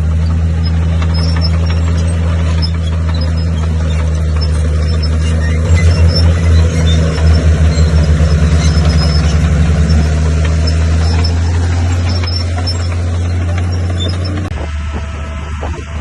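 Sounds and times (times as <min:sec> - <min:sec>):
bulldozer diesel engine droning: 0:00.0 - 0:16.0.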